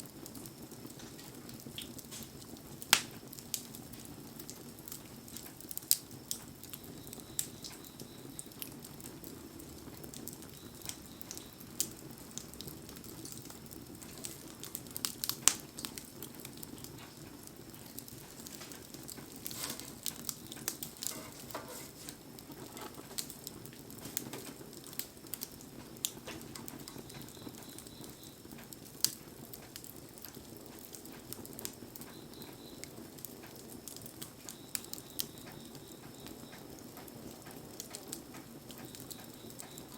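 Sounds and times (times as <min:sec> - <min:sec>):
bonfire crackling and popping: 0:00.0 - 0:39.9
rain patter: 0:00.0 - 0:39.9.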